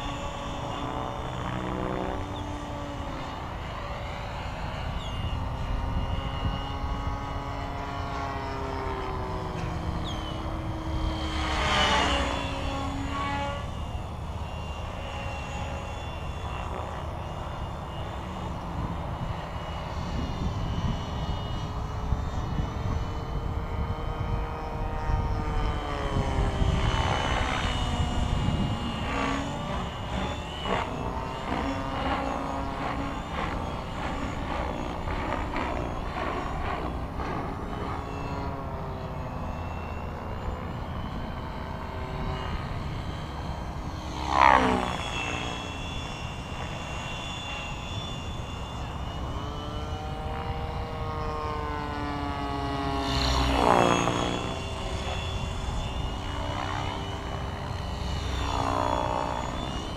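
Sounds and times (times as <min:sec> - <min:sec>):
electric motor whine: 0:00.0 - 0:59.9
helicopter rotor whoosh: 0:00.0 - 0:59.9.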